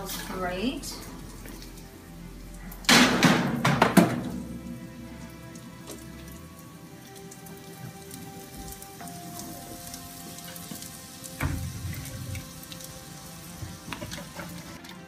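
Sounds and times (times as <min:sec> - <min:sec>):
bacon fat sizzling and crackling: 0:00.0 - 0:15.0.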